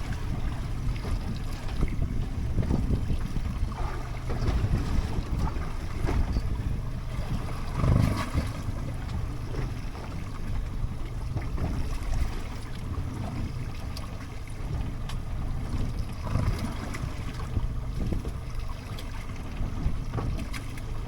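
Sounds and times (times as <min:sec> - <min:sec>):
waves washing around boat: 0:00.0 - 0:21.0
wind buffeting microphone: 0:00.0 - 0:21.0.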